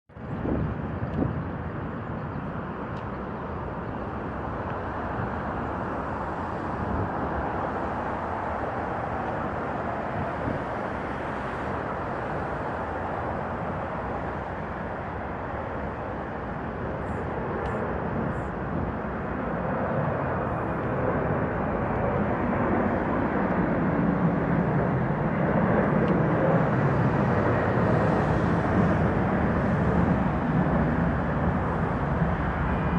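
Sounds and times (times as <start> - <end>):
jet engines at take-off: 0.1 - 32.9.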